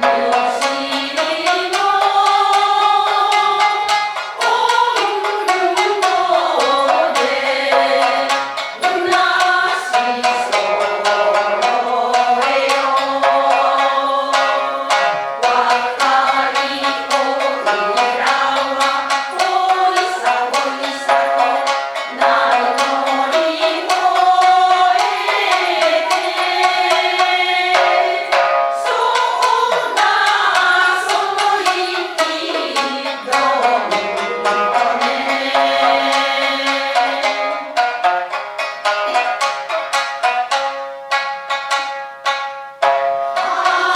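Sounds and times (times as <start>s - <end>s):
group singing folk song: 0.0s - 43.9s
plucked shamisen: 0.0s - 43.9s.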